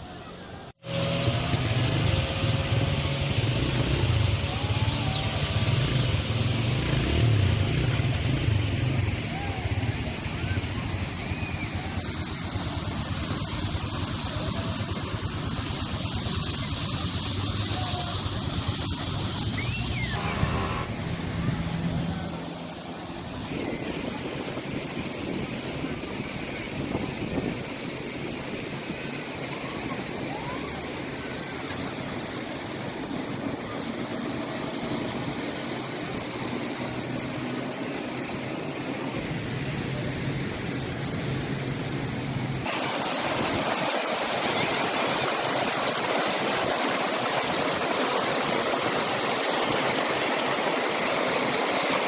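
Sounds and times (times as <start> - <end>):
waterfall rushing: 0.8 - 52.0.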